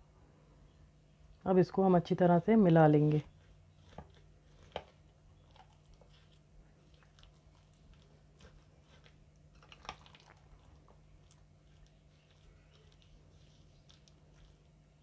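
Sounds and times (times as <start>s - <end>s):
soft squishing of mashed food: 2.5s - 15.0s.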